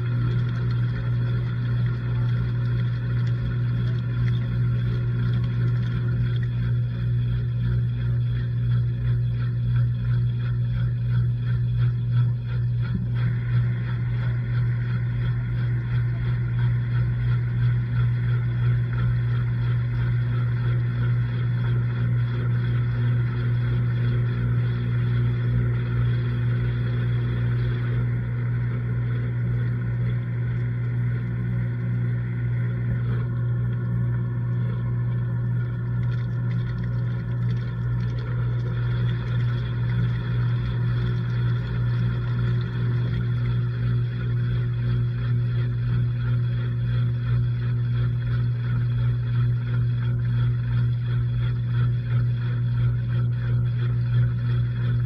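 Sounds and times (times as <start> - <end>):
washing machine churning: 0.0 - 55.0
washing machine motor hum: 0.0 - 55.0.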